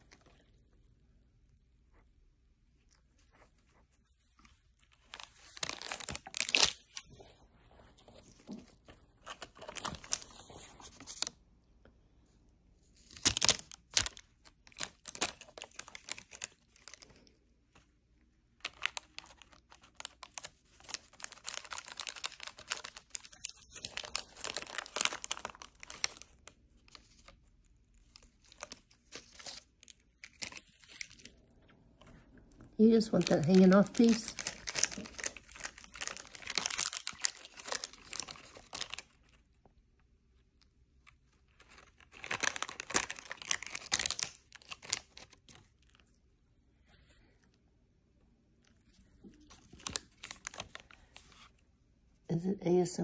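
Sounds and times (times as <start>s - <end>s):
cat chewing crackling plastic: 2.8s - 11.4s, 12.8s - 46.2s, 48.6s - 51.6s.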